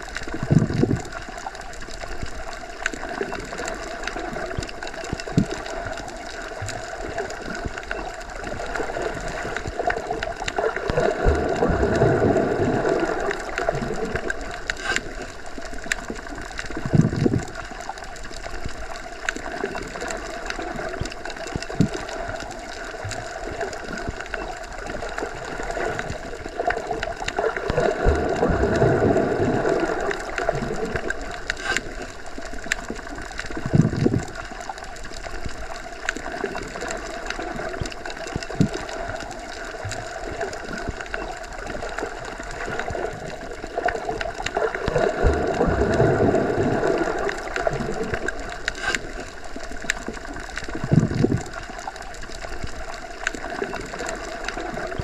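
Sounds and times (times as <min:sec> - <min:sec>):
underwater low hum: 0:00.0 - 0:55.0.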